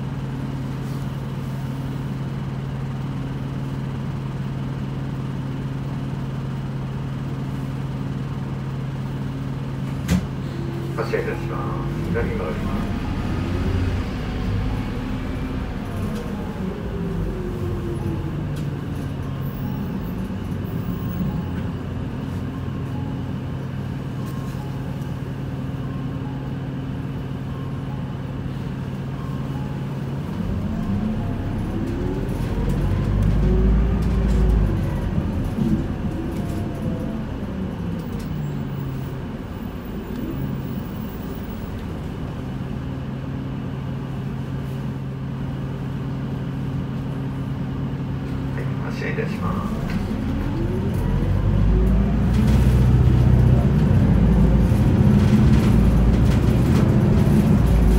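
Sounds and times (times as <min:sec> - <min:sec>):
bus engine idling and revving: 0:00.0 - 0:57.9.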